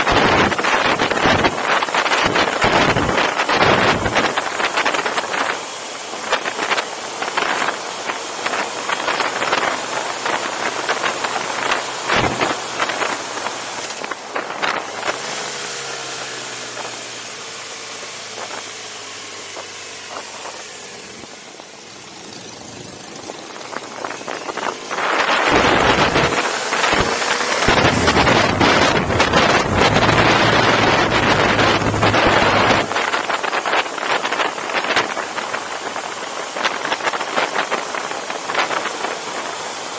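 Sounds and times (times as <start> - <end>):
wind buffeting microphone: 0.0 - 21.5, 22.2 - 39.9
motorcycle engine running: 0.0 - 39.9.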